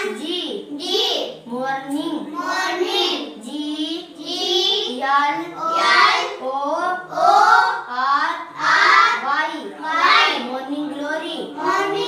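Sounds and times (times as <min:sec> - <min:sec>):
child chanting: 0:02.2 - 0:12.0.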